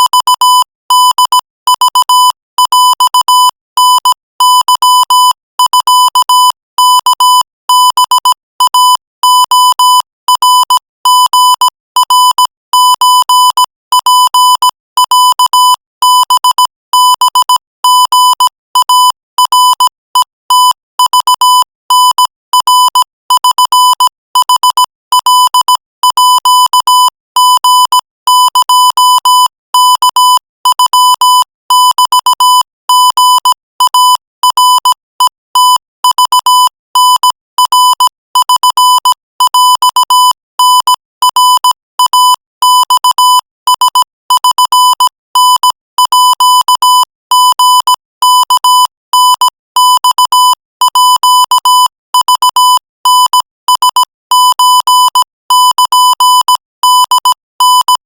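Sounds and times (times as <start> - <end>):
morse code beeps: 0.0 - 58.0.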